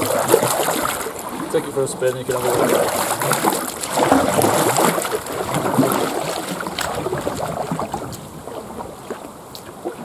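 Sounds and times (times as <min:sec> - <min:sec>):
paddle strokes splashing: 0:00.0 - 0:10.0
water drips: 0:00.0 - 0:10.0
water washing along kayak hull: 0:00.0 - 0:10.0.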